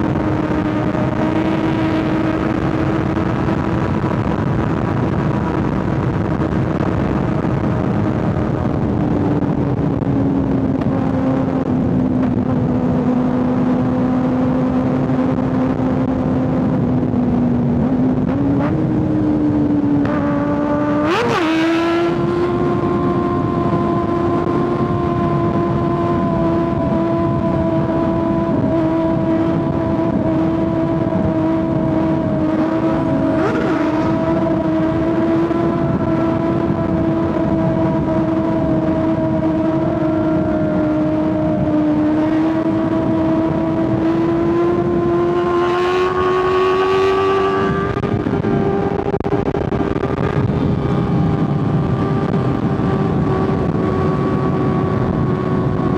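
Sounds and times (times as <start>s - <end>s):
motorcycle engine running: 0.0s - 55.9s
wind noise: 0.0s - 55.9s.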